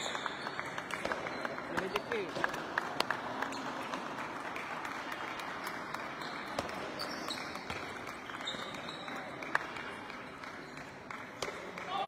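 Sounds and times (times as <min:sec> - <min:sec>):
sports hall din: 0:00.0 - 0:12.0.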